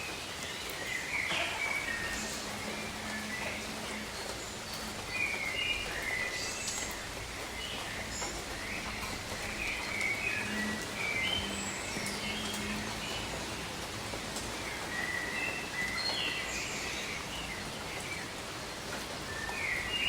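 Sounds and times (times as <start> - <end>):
birds chirping: 0.0 - 18.6
rain on foliage: 0.0 - 20.0.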